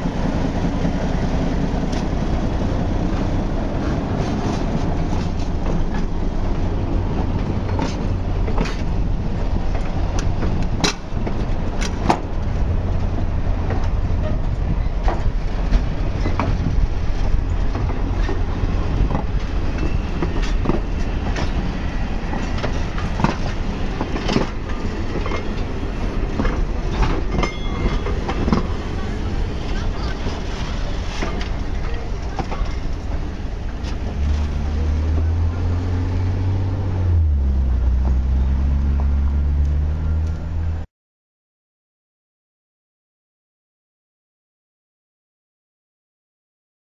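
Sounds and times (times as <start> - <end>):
wheels clanking on rails: 0.0 - 40.5
train rumbling: 0.0 - 40.9.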